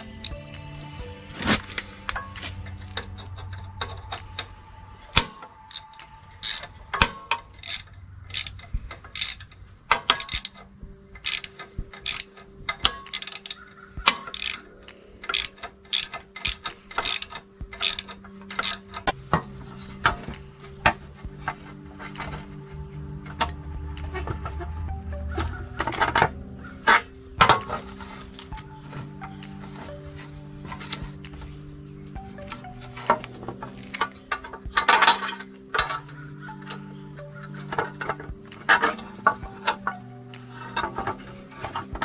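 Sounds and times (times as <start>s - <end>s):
hand tools clicking on metal: 0.0s - 42.0s.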